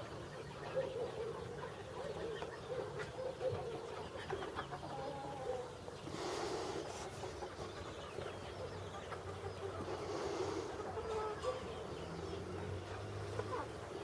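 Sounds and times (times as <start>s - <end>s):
faint wavering animal calls: 0.0s - 14.0s.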